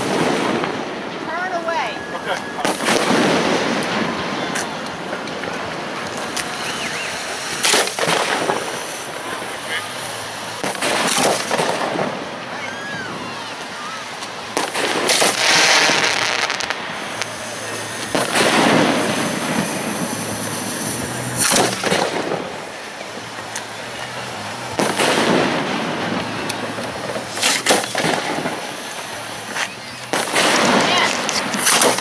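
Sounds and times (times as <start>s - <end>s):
continuous hiss: 0.0s - 32.0s
fireworks bursts: 0.0s - 32.0s.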